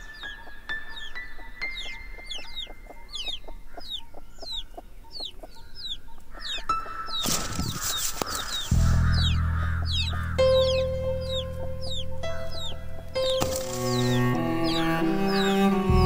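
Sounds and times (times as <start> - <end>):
background music: 0.0 - 4.6, 5.2 - 16.0
birds chirping: 0.0 - 16.0.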